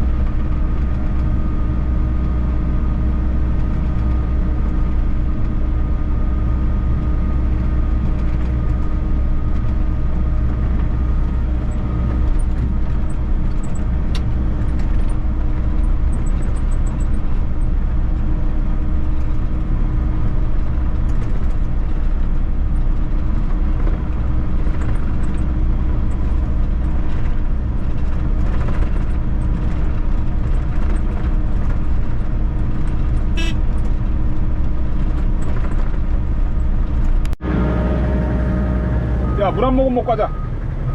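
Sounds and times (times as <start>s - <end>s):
excavator diesel engine droning: 0.0s - 40.9s.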